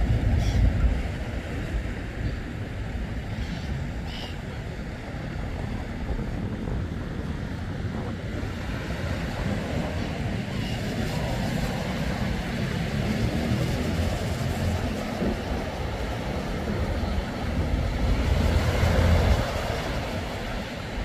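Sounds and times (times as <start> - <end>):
small waves breaking on beach: 0.0 - 21.0
wind rumbling on microphone: 0.0 - 21.0.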